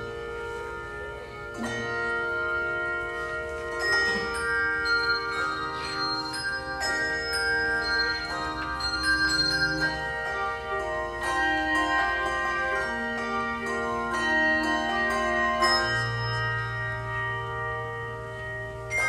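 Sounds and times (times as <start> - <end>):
handbell choir playing: 0.0 - 19.0.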